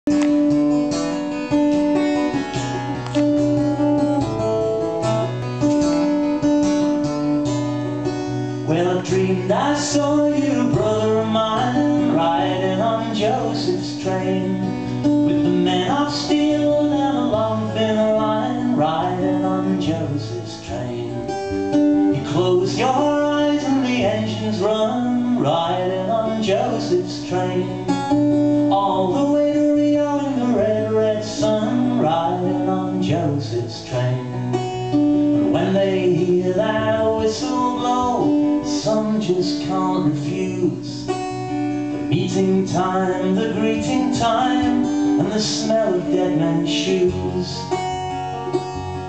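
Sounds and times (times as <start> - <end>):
acoustic guitar playing: 0.0 - 49.0
man singing: 8.5 - 48.6.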